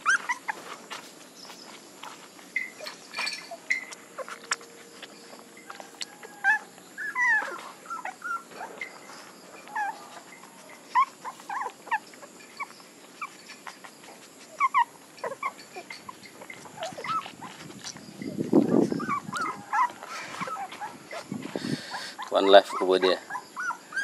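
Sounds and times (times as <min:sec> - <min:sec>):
puppies squeaking and whimpering: 0:00.0 - 0:24.0.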